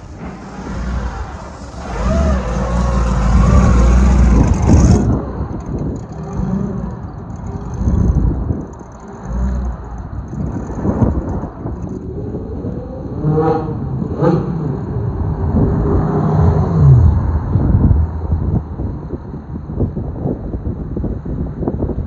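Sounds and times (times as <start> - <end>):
car engines revving: 0.0 - 19.2
low rumble: 0.0 - 21.0.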